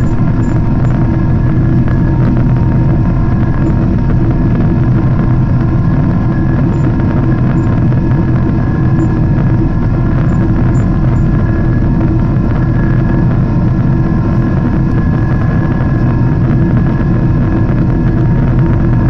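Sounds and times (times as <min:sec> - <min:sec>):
airliner engine and airflow drone: 0:00.0 - 0:19.0
faint steady whines: 0:00.0 - 0:19.0.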